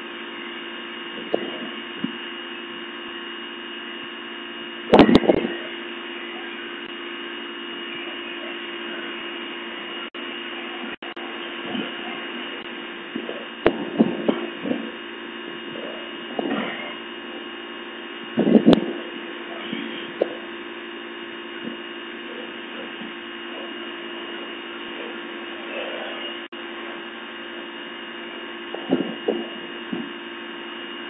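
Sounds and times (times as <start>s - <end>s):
electric pressure washer humming: 0.0s - 31.0s.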